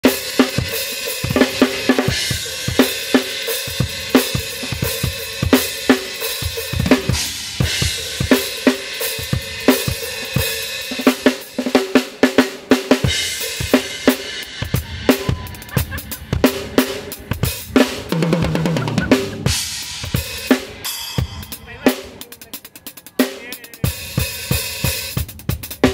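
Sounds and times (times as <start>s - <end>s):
acoustic drum kit groove: 0.0s - 25.9s.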